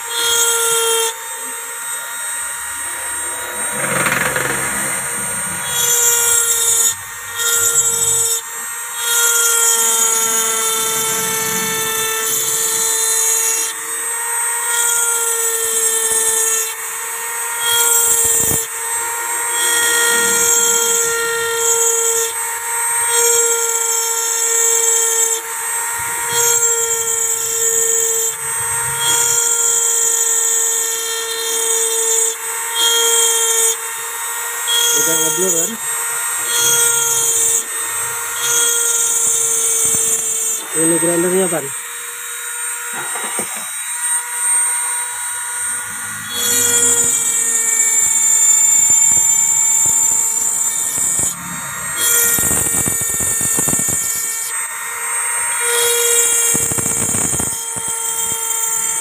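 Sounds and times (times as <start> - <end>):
electric grinder high whine: 0.0 - 59.0.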